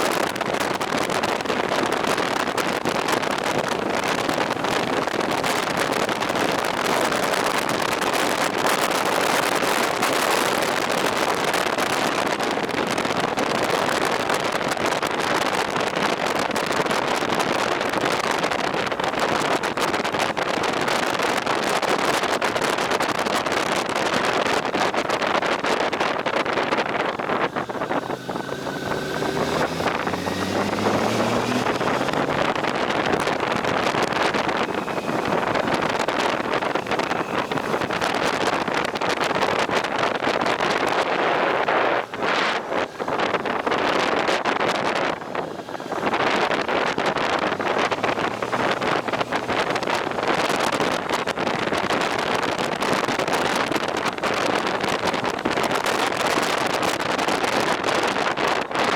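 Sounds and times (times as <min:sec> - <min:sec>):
motorcycle engine accelerating: 0:00.0 - 0:58.9
wind roaring over microphone: 0:00.0 - 0:58.9.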